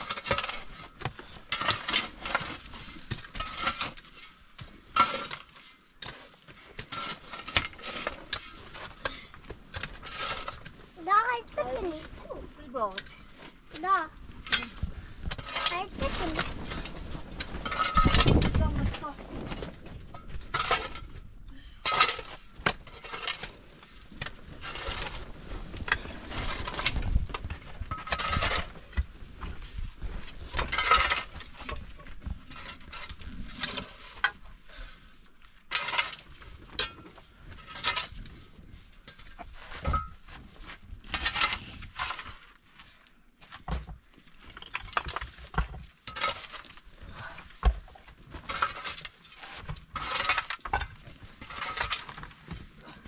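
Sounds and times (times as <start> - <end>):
shovel scraping earth and stones: 0.0 - 53.0.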